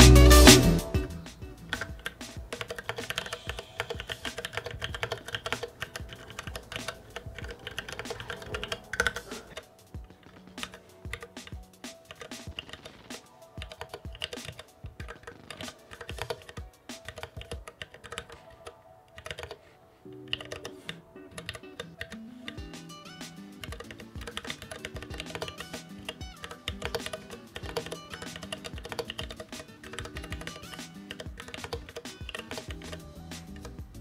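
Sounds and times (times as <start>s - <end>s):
background music: 0.0s - 34.0s
mechanical keyboard typing: 1.7s - 22.8s, 23.6s - 33.8s.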